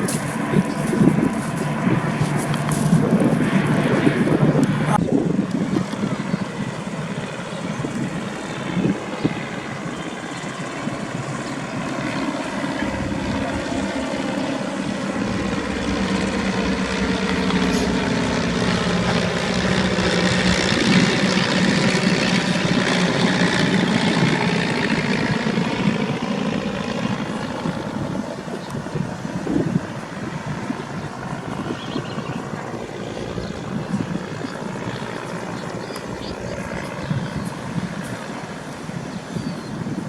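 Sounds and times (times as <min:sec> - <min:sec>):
propeller aircraft engine droning: 0:00.0 - 0:40.0.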